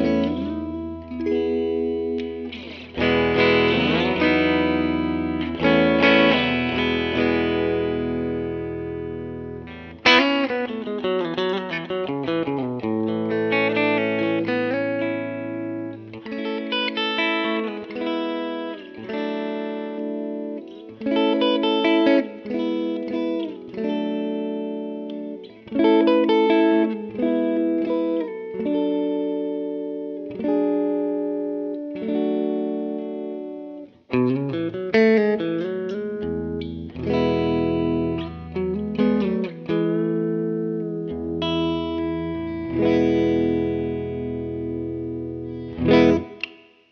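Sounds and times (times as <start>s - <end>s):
electric guitar chords and notes: 0.0s - 46.9s.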